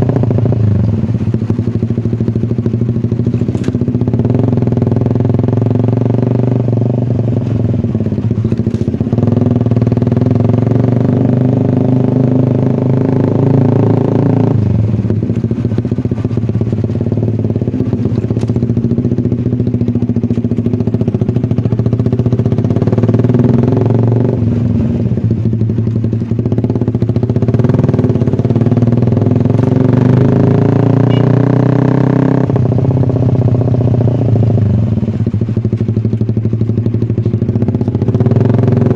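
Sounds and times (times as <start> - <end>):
loud motorcycle engine revving: 0.0 - 38.9.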